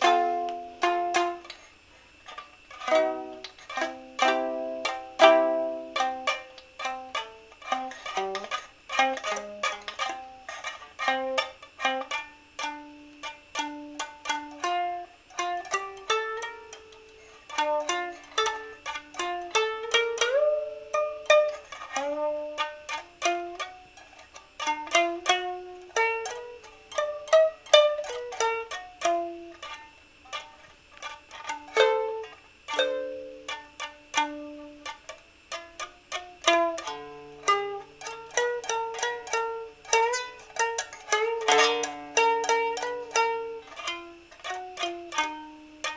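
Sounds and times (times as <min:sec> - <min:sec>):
plucked string instrument melody: 0:00.0 - 0:45.9.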